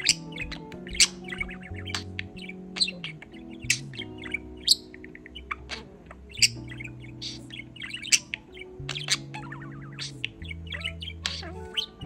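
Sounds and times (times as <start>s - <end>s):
budgerigar chirping and chattering: 0.0s - 12.0s.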